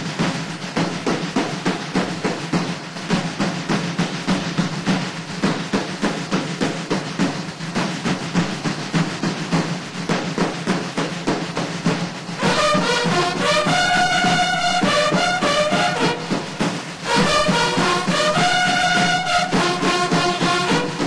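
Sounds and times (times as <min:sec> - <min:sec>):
marching snare and bass drums: 0:00.0 - 0:21.0.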